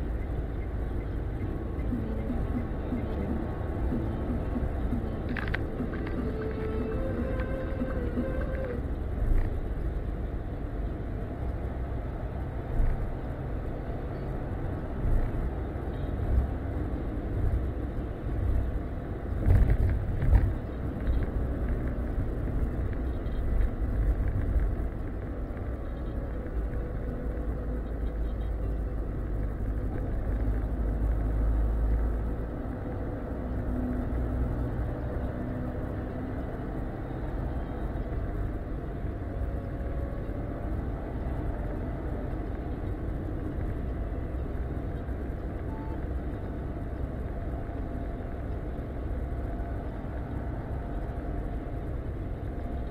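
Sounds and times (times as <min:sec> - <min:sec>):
car engine and tyre rumble: 0:00.0 - 0:52.9.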